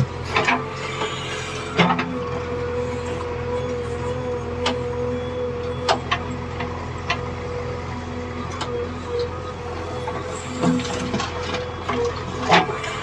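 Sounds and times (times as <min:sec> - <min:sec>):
diesel engine running: 0:00.0 - 0:13.0
steady whining tone: 0:00.0 - 0:13.0.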